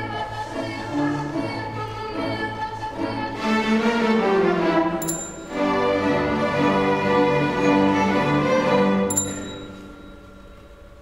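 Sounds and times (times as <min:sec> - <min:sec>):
string ensemble playing: 0:00.0 - 0:10.0.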